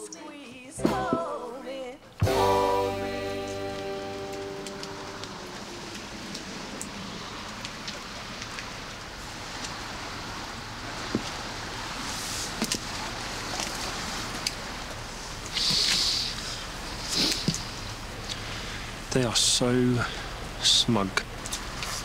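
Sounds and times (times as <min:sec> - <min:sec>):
outdoor night ambience hiss: 0:00.0 - 0:22.0.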